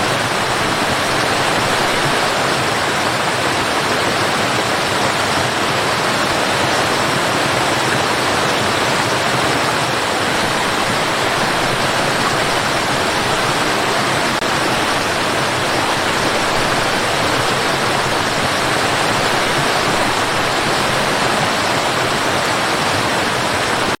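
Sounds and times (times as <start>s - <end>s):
waterfall crashing: 0.0s - 24.0s.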